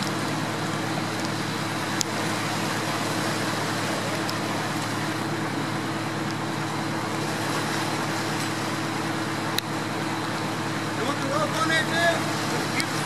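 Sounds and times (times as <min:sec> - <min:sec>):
floodwater rushing: 0:00.0 - 0:13.0
low steady hum: 0:00.0 - 0:13.0.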